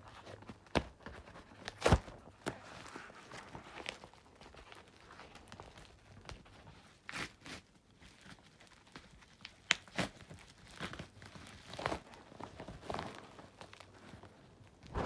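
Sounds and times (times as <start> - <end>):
envelope tearing and crinkling: 0.7 - 14.1.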